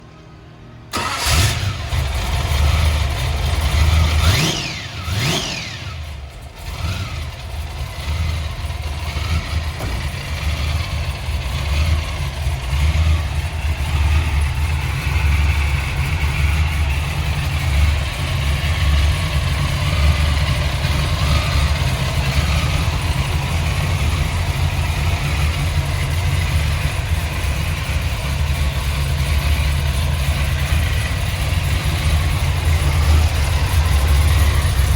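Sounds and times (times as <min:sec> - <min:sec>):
car engine starting and revving: 0:00.9 - 0:34.9
engine idling: 0:00.9 - 0:34.9.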